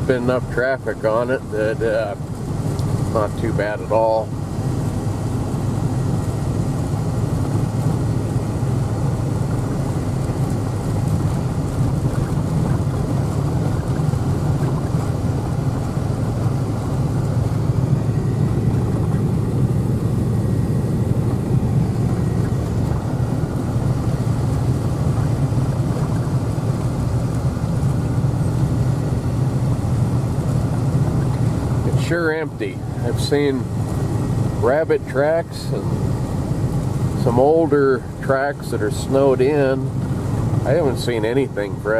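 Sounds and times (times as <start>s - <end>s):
vehicle driving on snowy road: 0.0s - 41.9s.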